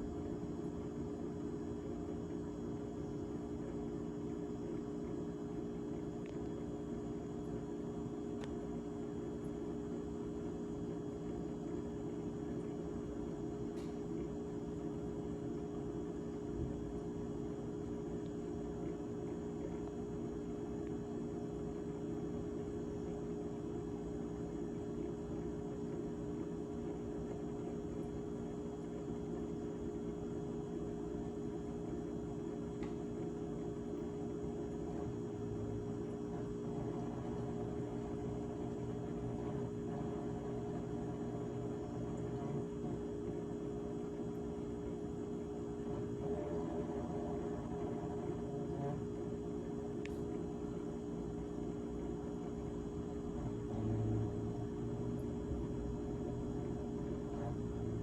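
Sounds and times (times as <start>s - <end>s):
refrigerator humming: 0.0s - 58.0s.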